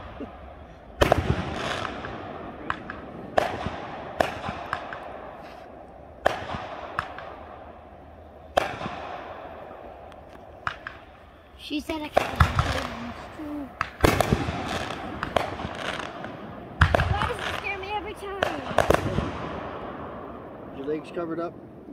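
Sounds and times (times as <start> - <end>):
fireworks booming: 0.0 - 21.9
small firework cracks: 1.0 - 20.4.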